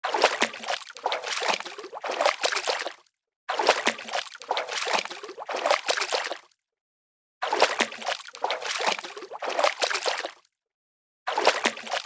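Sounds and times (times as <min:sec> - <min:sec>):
water splashing at shore: 0:00.0 - 0:06.5, 0:07.4 - 0:10.4, 0:11.3 - 0:12.0.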